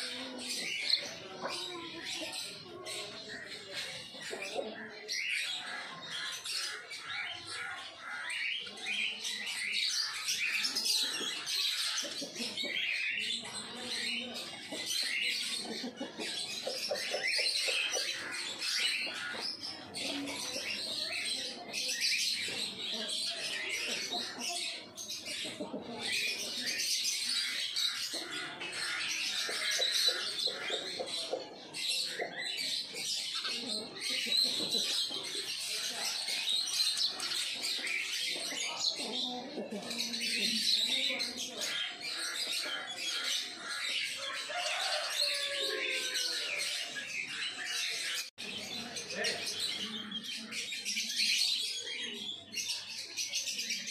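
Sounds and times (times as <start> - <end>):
sparrows chirping: 0.0 - 53.9.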